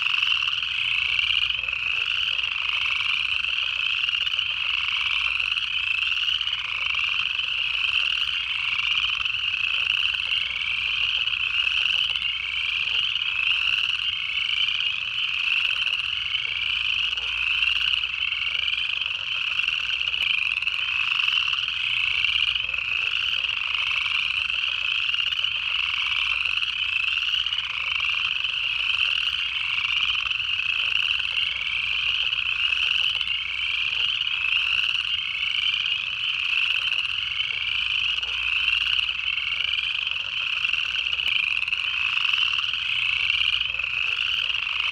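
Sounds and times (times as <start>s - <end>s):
chorus frogs trilling: 0.0s - 44.9s.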